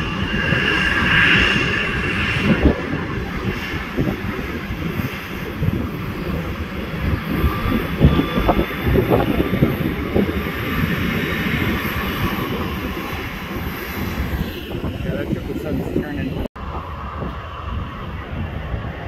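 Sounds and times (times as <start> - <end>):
jet engines taxiing: 0.0 - 19.0.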